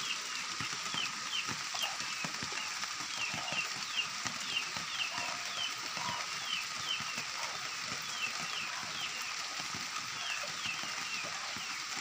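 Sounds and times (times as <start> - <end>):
rain on vegetation: 0.0 - 12.0.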